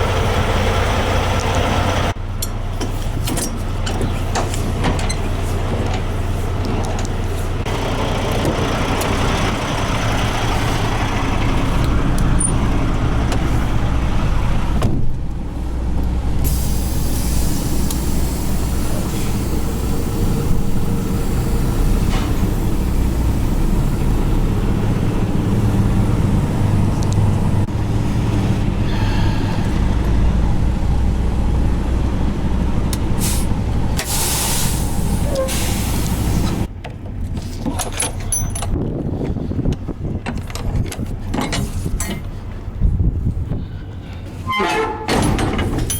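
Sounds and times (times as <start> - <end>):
diesel truck engine running: 0.0 - 37.4
road and cab noise: 0.0 - 45.9.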